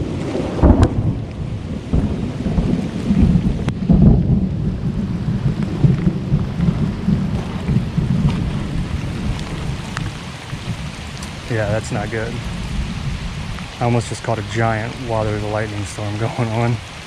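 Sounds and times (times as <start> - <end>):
rain falling: 0.0 - 17.0
rolling thunder: 0.0 - 17.0.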